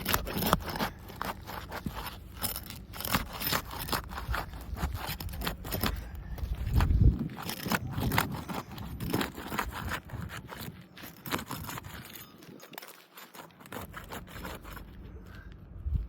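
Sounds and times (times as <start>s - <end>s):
roof shingles crackling and scraping: 0.0s - 15.6s.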